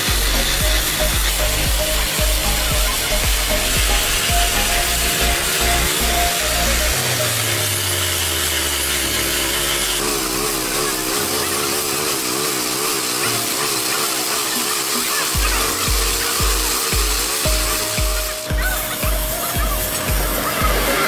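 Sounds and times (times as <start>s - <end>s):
disc grinding steel: 0.0s - 21.0s
saw engine running under load: 0.0s - 21.0s.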